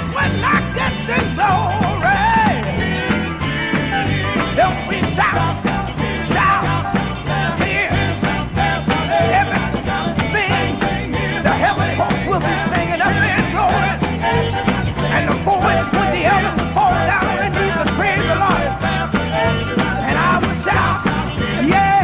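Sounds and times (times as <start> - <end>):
gospel vocal group singing: 0.0 - 22.0.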